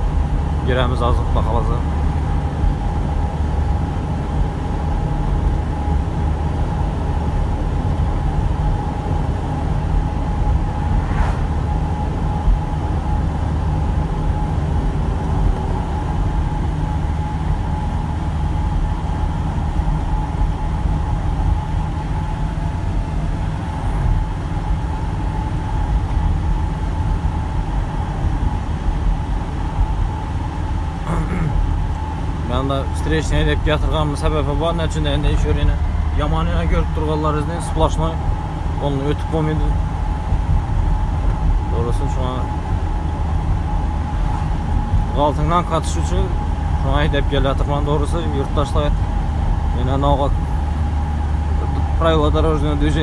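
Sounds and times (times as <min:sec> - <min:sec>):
truck engine and road drone: 0:00.0 - 0:53.0.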